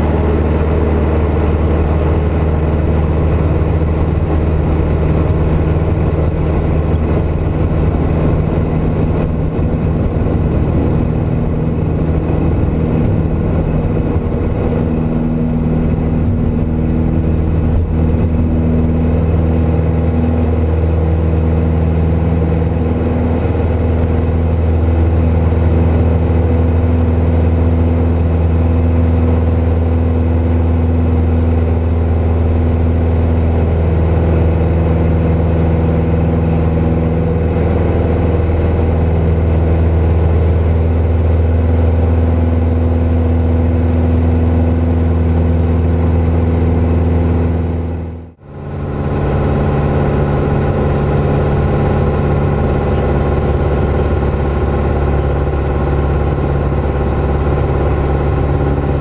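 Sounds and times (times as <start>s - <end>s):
propeller plane engine: 0.0s - 59.0s
rough rumble: 0.0s - 59.0s.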